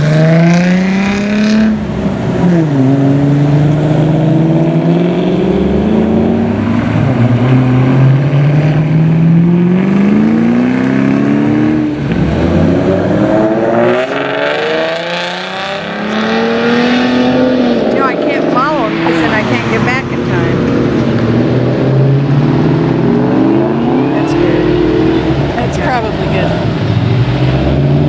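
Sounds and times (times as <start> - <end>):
cars accelerating: 0.0 - 28.0.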